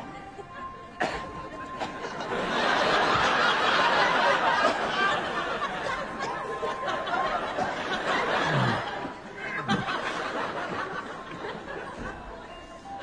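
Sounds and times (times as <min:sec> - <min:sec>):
audience laughing: 0:01.6 - 0:12.6.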